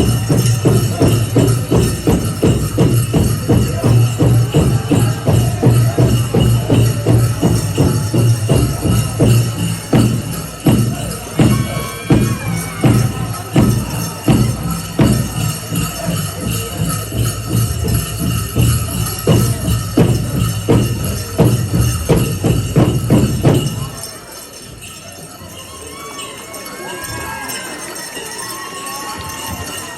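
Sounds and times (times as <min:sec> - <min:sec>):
drum beaten steadily: 0:00.0 - 0:25.0, 0:27.0 - 0:29.9
jingling metal: 0:00.0 - 0:29.9.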